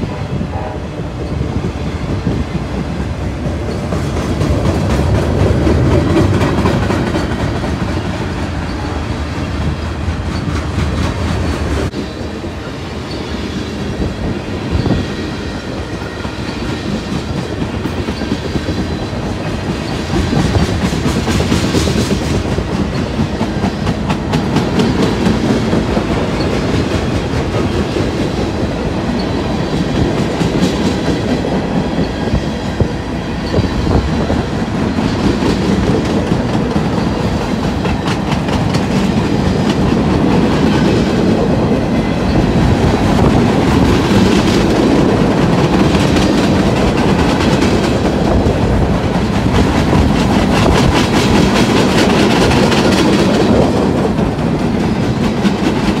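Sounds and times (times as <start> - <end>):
train wheels clicking on rails: 0.0 - 56.0.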